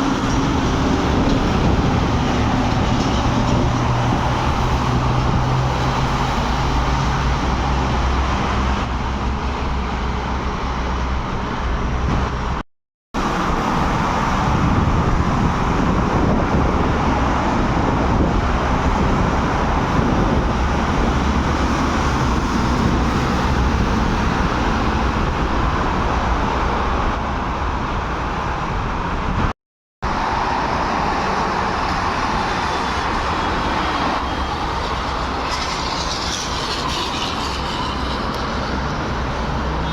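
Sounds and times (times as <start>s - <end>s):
road traffic noise: 0.0s - 12.6s, 13.2s - 39.9s.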